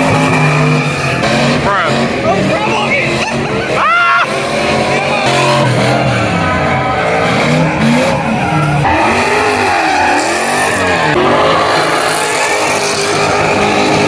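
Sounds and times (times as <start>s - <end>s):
car engine revving: 0.0s - 14.0s
tyres squealing: 0.0s - 14.0s.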